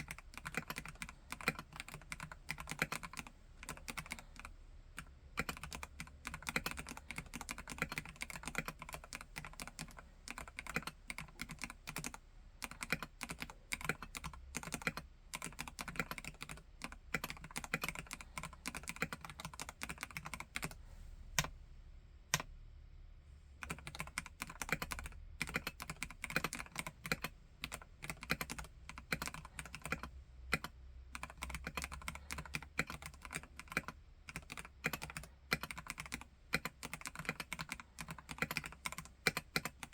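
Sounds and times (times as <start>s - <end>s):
mechanical keyboard typing: 0.0s - 20.8s, 23.6s - 39.9s.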